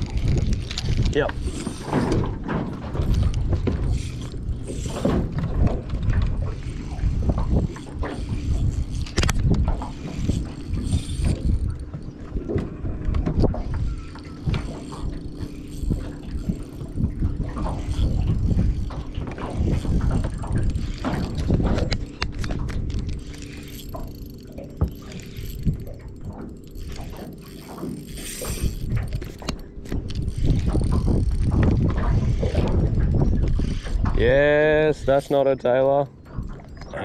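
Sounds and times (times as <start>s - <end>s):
fishing reel winding and ticking: 0.0s - 2.2s, 3.0s - 12.1s, 13.4s - 35.8s
wind rumble on microphone: 0.0s - 37.0s.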